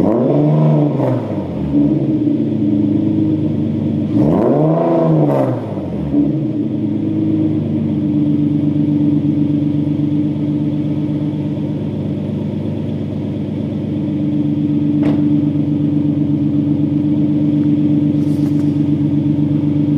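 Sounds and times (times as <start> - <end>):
car engine idling: 0.7 - 4.5, 5.2 - 19.9.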